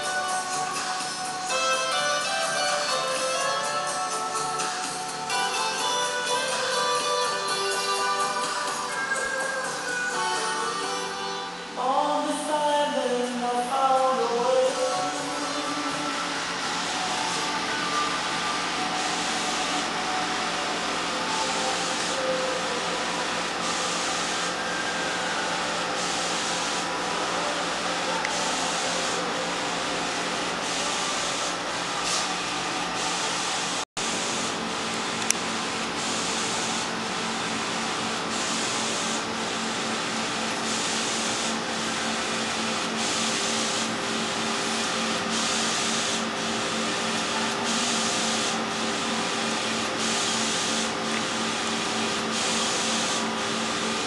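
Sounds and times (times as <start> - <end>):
printer hum: 0.0 - 54.0.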